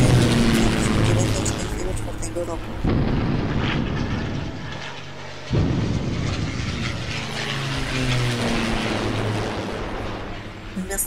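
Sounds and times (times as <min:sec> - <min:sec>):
aircraft engines flying over: 0:00.0 - 0:11.0.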